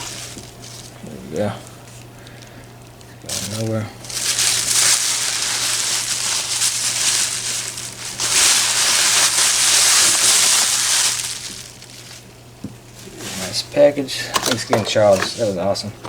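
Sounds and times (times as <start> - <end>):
packing material crinkling: 0.0 - 13.7, 14.3 - 16.0.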